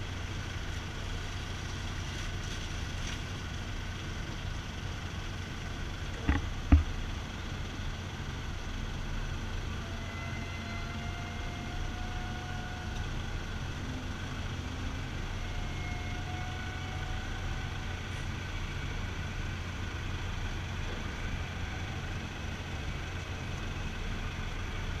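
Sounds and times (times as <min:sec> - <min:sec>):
ferry engine drone: 0:00.0 - 0:25.0.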